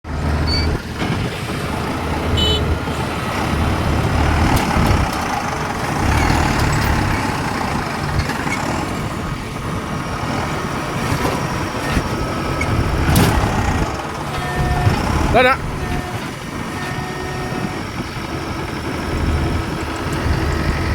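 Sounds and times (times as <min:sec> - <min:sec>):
diesel engine rumble: 0:00.0 - 0:20.9
machinery clatter: 0:00.1 - 0:20.9.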